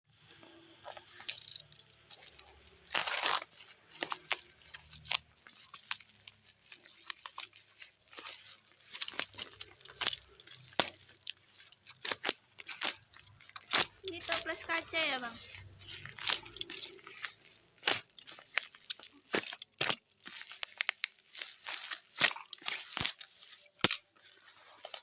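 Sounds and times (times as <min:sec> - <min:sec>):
packaging crinkling: 0:00.1 - 0:25.0
sharp clicks and crunches: 0:00.1 - 0:25.0
packaging tearing: 0:02.0 - 0:25.0.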